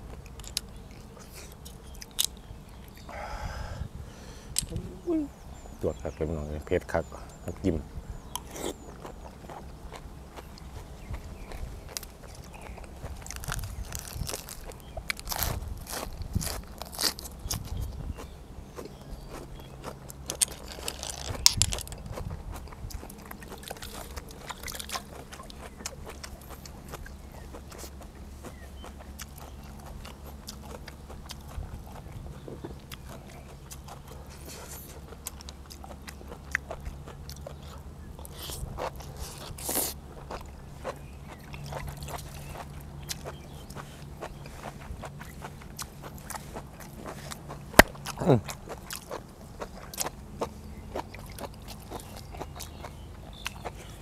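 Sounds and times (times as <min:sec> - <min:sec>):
chewing and biting: 0:00.0 - 0:03.2, 0:08.2 - 0:54.0.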